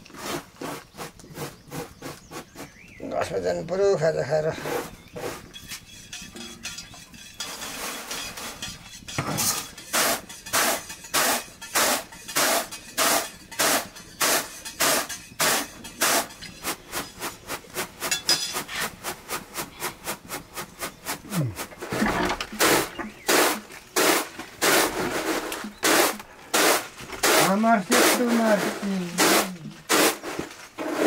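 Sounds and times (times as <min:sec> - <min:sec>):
knocking strokes: 0:04.6 - 0:31.0.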